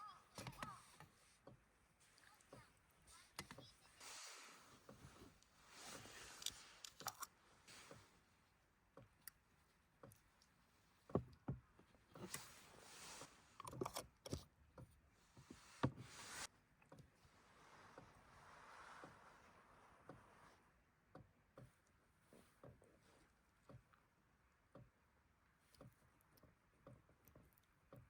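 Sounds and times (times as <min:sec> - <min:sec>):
soft rustling: 0:00.4 - 0:13.9, 0:14.7 - 0:24.2.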